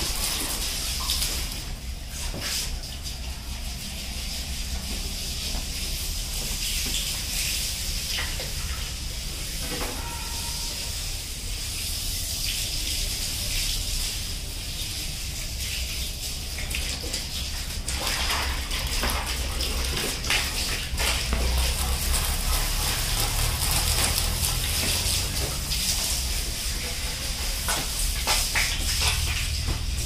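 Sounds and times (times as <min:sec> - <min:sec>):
hose water spray hissing: 0:00.0 - 0:30.0.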